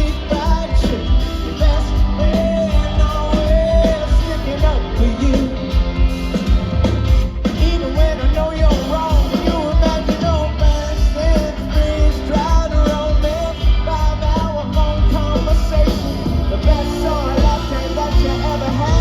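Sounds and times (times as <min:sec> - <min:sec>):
bending lead melody: 0:00.0 - 0:19.0
drum and bass beat: 0:00.0 - 0:19.0.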